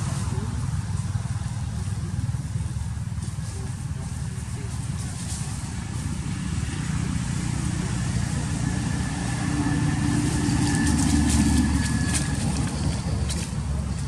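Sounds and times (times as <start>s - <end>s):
motor engine rumbling: 0.0s - 14.0s.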